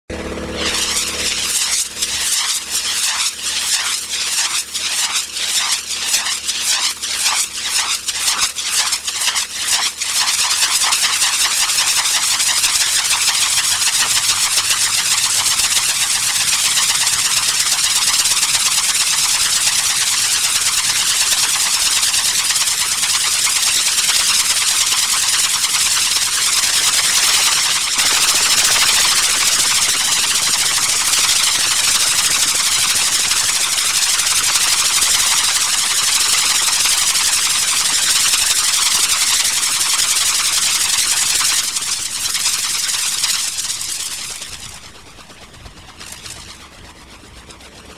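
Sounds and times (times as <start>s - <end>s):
helicopter rotor spinning up: 0.0s - 47.9s.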